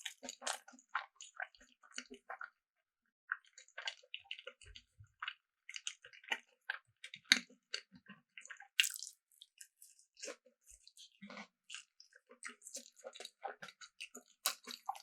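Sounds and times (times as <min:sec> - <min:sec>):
wet chewing clicks and smacks: 0:00.0 - 0:02.6, 0:03.3 - 0:15.0.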